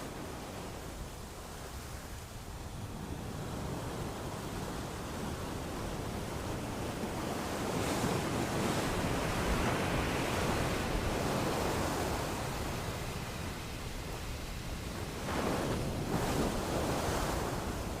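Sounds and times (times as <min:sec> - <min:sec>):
ocean waves washing onto beach: 0:00.0 - 0:18.0.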